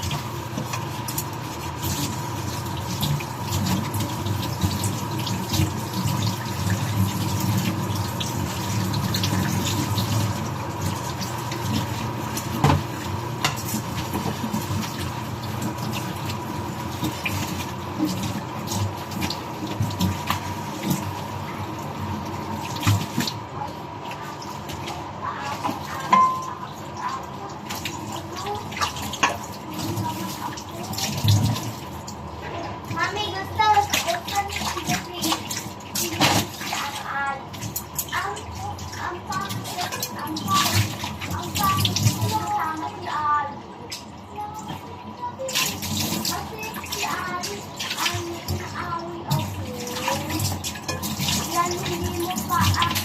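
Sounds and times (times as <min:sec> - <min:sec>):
tap water splashing into basin: 0:00.0 - 0:23.4, 0:24.0 - 0:42.8, 0:43.8 - 0:53.0.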